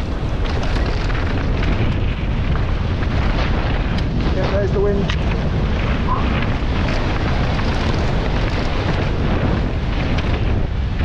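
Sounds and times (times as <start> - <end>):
tyre rumble: 0.0 - 11.0
wind buffeting microphone: 0.0 - 11.0.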